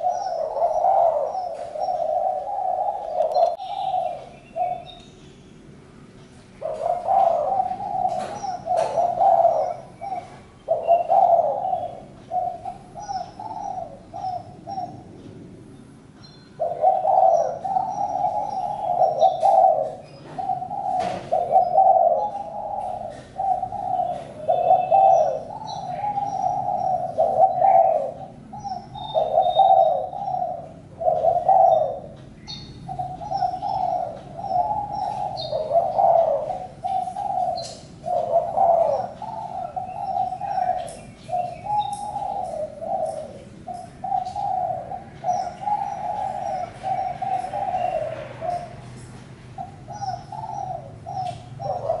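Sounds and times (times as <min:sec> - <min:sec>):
dove cooing: 0:00.0 - 0:05.0, 0:06.5 - 0:15.3, 0:16.5 - 0:52.0
small birds chirping: 0:00.0 - 0:52.0.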